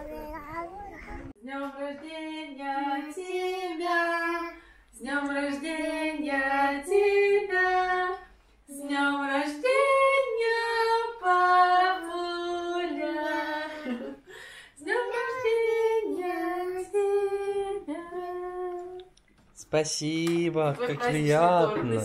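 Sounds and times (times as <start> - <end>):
women and children singing: 1.4 - 19.1.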